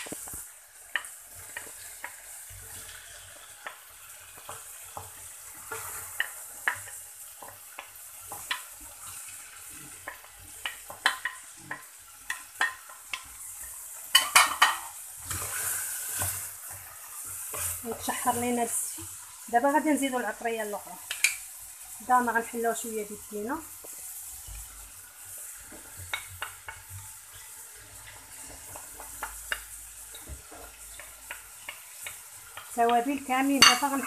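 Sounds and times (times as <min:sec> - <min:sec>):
wooden spoon scraping and tapping: 0:00.0 - 0:19.1, 0:21.0 - 0:21.4, 0:25.5 - 0:34.0
chicken and onion sizzling in oil: 0:00.0 - 0:34.0.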